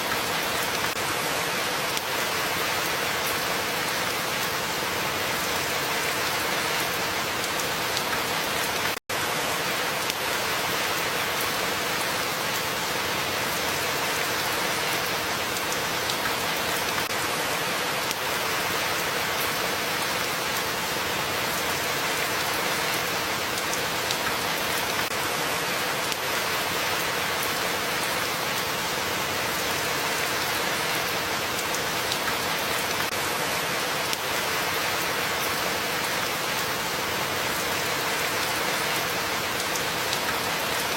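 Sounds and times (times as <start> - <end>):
dense rainfall: 0.0 - 40.9.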